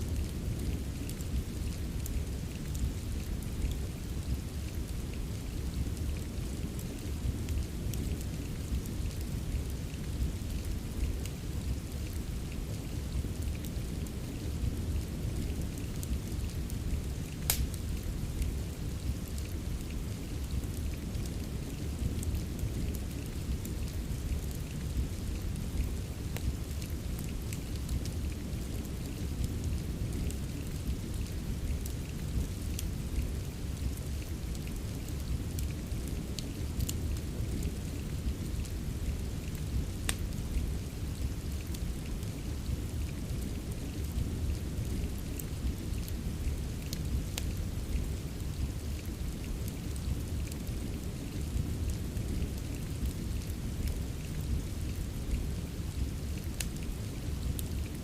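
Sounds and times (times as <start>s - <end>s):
deep rush of rain: 0.0s - 58.0s
fire crackling and popping: 0.1s - 58.0s.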